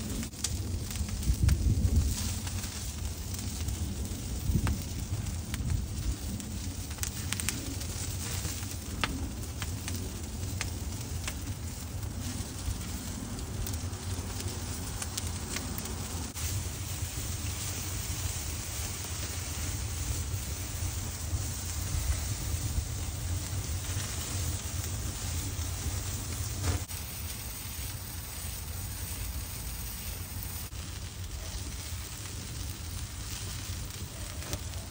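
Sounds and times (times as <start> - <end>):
fire crackling and popping: 0.0 - 34.9
low rumble: 0.0 - 34.9
meat sizzling: 0.0 - 34.9.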